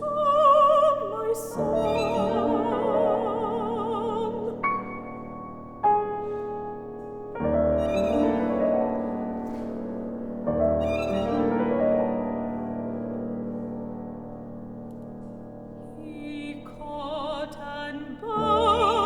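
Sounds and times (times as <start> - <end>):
piano chords: 0.0 - 19.0
violin: 0.0 - 19.0.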